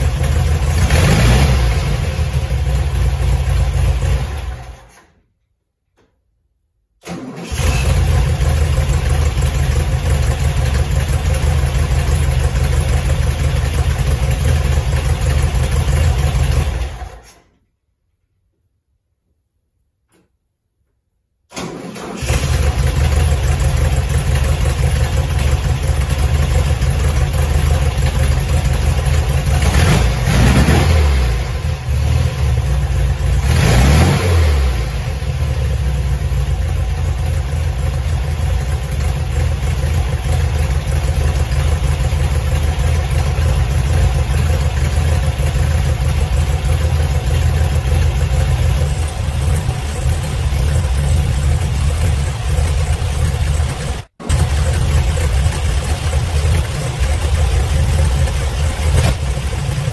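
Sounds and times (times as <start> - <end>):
car engine idling: 0.0 - 5.0, 7.5 - 17.2, 22.0 - 33.8, 34.6 - 59.9
engine revs: 0.0 - 5.0, 7.1 - 17.3, 21.6 - 36.6, 39.5 - 59.9.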